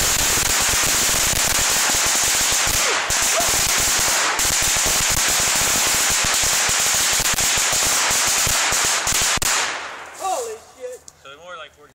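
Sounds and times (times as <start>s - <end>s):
firecrackers crackling: 0.0s - 11.2s.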